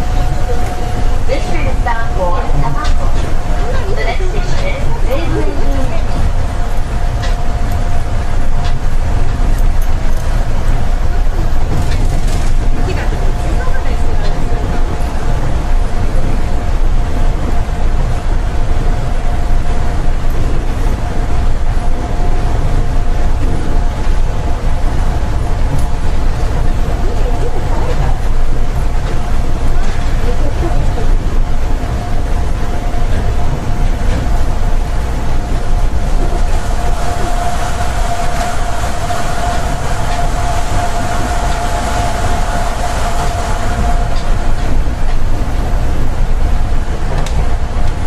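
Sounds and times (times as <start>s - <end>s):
train low rumble: 0.0s - 48.0s
train whine: 0.0s - 48.0s.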